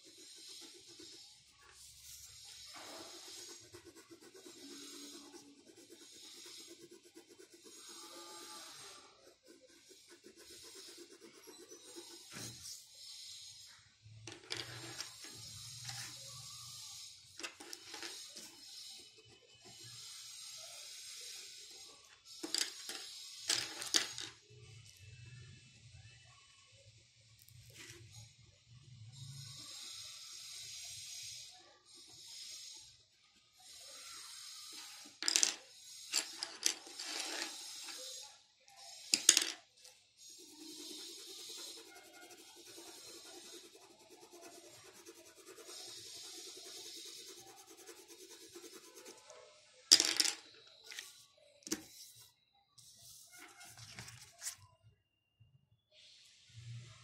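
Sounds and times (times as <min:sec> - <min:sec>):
pencil scratching on paper: 0:00.0 - 0:23.9, 0:29.1 - 0:49.8, 0:50.7 - 0:54.6.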